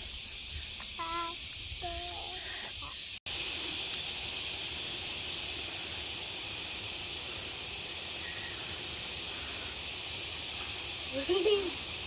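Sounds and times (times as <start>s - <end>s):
forest insects chorus: 0.0s - 12.0s.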